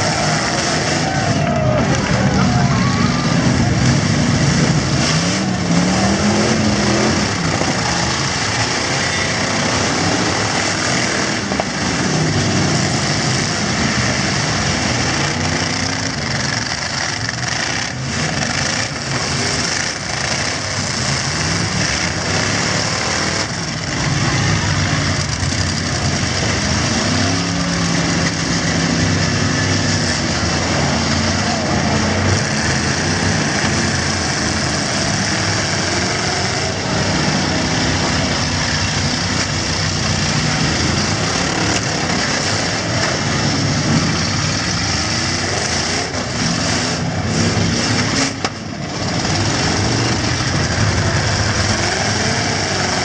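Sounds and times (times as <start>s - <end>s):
truck engines revving and idling: 0.0s - 53.0s.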